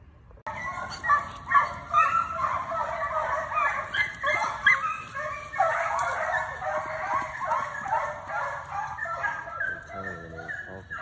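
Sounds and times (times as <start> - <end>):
hounds baying in chorus: 0.5 - 11.0.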